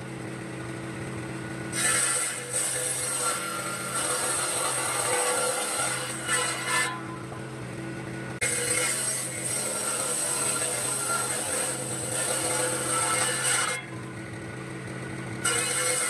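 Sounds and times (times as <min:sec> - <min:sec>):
power tool grinding wood: 0:01.2 - 0:07.4, 0:08.3 - 0:14.3, 0:14.9 - 0:16.0.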